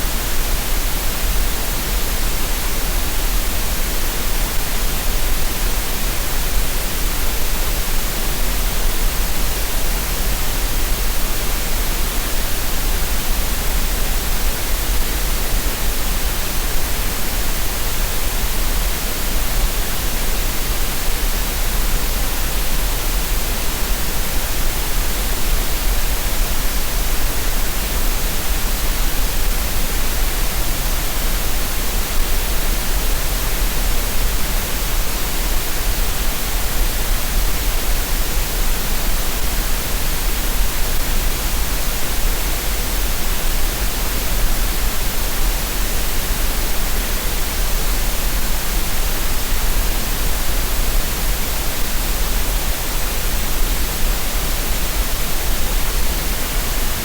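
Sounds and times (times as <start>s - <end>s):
steady synthetic noise hiss: 0.0s - 57.0s.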